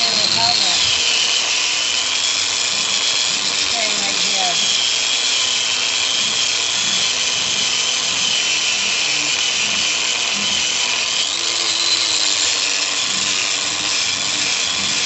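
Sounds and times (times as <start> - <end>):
wire wheel scraping metal: 0.0 - 15.0.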